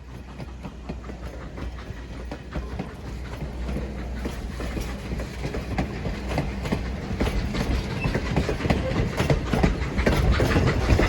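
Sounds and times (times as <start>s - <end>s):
train low rumble: 0.0s - 11.0s
train wheels clicking over rail joints: 0.0s - 11.0s.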